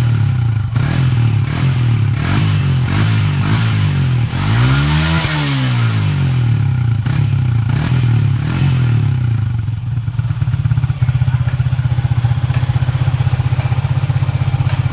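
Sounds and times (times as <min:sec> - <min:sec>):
motorcycle engine revving and idling: 0:00.0 - 0:14.9.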